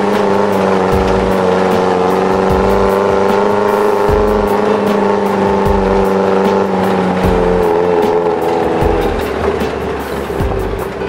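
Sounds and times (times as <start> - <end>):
background music with steady beat: 0.0 - 11.0
jeep engine droning: 0.0 - 11.0.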